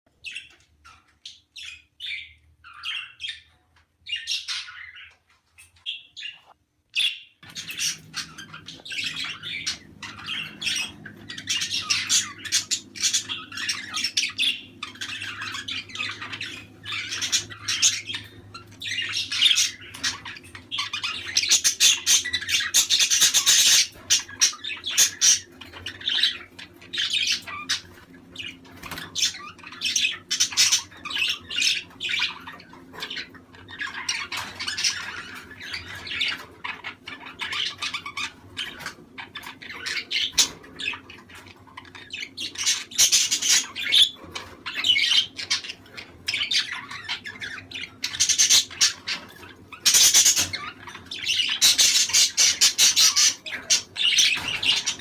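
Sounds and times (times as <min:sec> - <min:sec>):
budgerigars chirping and warbling: 0:00.1 - 0:55.0.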